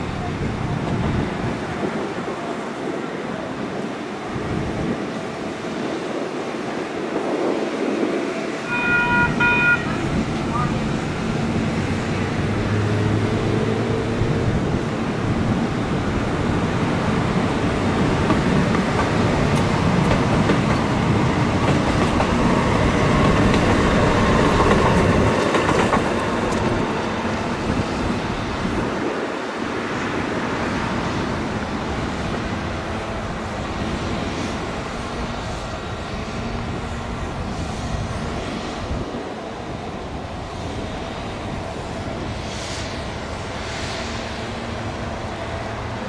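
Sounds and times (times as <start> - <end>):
light rail train passing: 0.0 - 46.0
steel wheels rumbling over rails: 0.0 - 46.0.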